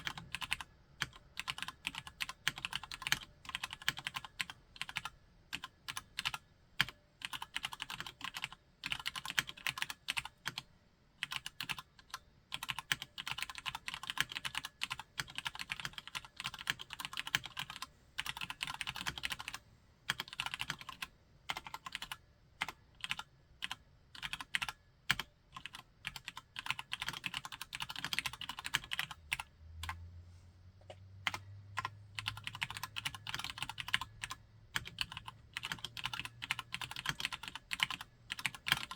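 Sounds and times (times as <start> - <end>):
mechanical keyboard typing: 0.0 - 30.0, 31.2 - 38.9
faint low hum: 0.0 - 38.9.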